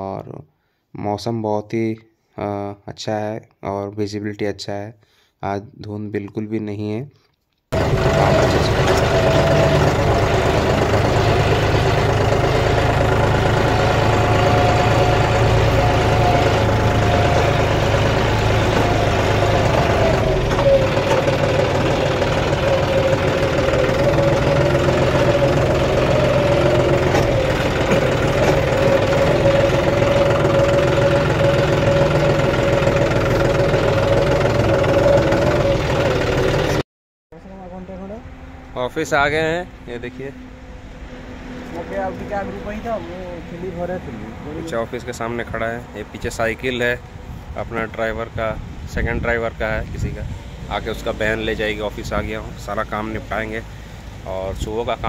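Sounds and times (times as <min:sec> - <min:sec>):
tractor diesel engine running: 0:07.8 - 0:36.8, 0:37.4 - 0:55.0.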